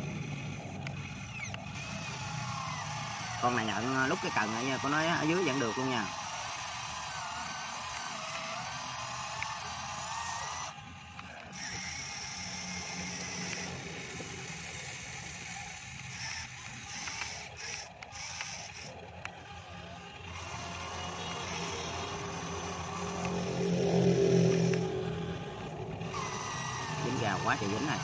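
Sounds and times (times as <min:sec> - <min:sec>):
electric motors whining: 0:00.0 - 0:28.0
small gear clicks: 0:00.0 - 0:28.0
steady mechanical hum: 0:00.0 - 0:28.0.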